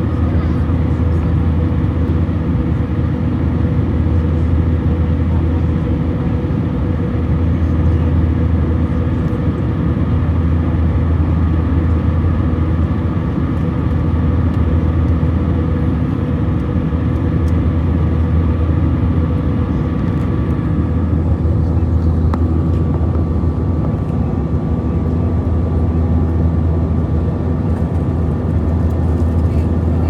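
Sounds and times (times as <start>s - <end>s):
jet engine drone: 0.0s - 30.0s.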